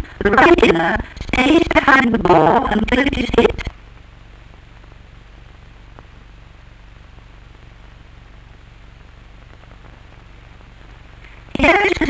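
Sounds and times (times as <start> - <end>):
film soundtrack hiss: 0.0 - 12.0
low hum: 0.0 - 12.0.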